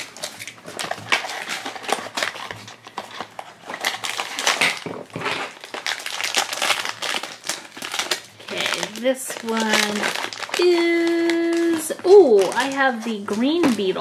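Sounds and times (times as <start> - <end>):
foil bag crinkling: 0.0 - 14.0.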